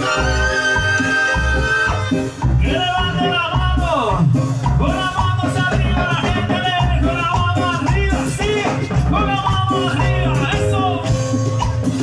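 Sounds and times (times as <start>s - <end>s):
latin dance band music: 0.0s - 12.0s.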